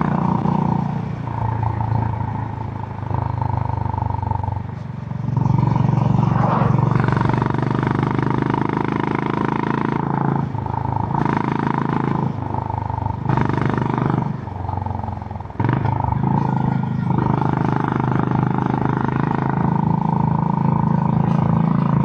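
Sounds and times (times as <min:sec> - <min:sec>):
motorcycle engine under throttle: 0:00.0 - 0:22.0.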